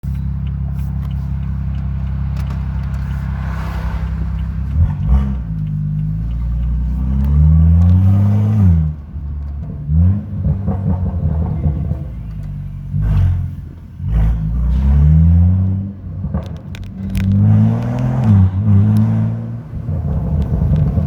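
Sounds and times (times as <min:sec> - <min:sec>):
vehicle engine idling and revving: 0:00.0 - 0:21.0.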